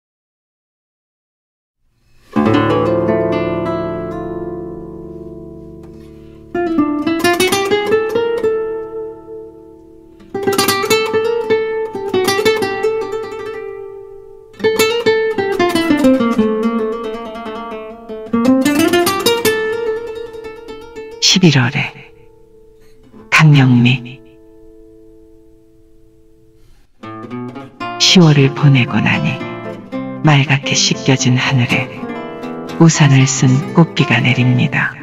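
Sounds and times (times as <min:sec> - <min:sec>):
plucked acoustic guitar music: 0:02.2 - 0:35.0.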